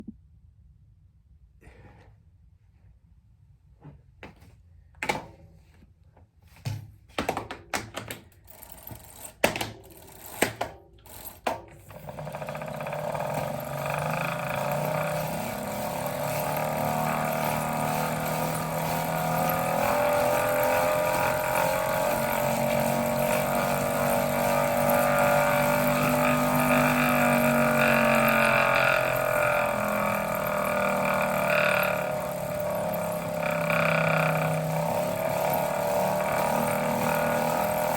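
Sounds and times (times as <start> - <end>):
bike trainer whine: 6.6 - 37.9.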